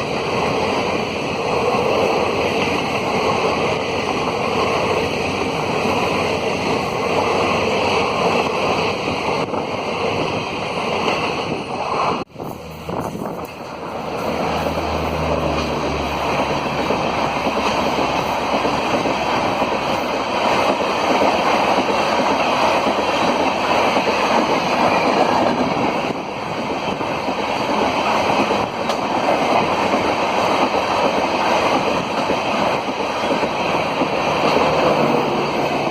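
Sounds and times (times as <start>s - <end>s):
train rushing past: 0.0s - 35.9s
wind on microphone: 0.0s - 35.9s.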